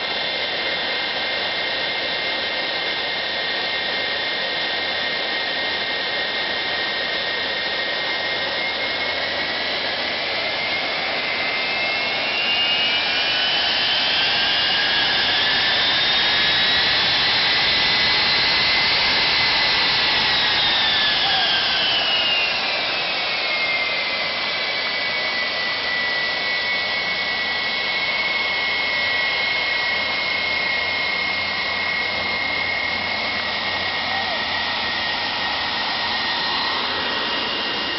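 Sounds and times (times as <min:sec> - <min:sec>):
jet engine whining: 0:00.0 - 0:37.9.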